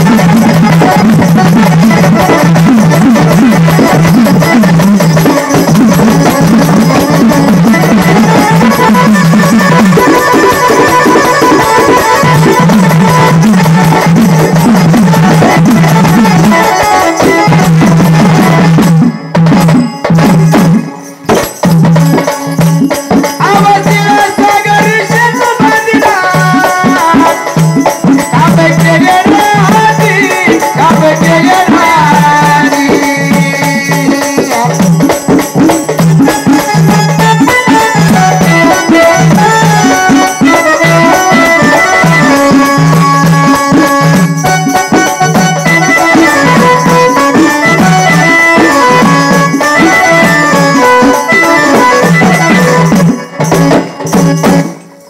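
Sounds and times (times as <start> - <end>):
fast percussion strokes: 0.0 - 55.0
repeating drum beat: 0.0 - 55.0.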